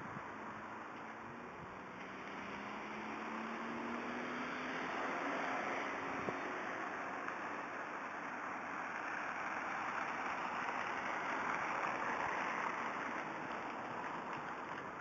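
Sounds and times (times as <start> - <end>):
car passing with hiss: 0.0 - 15.0.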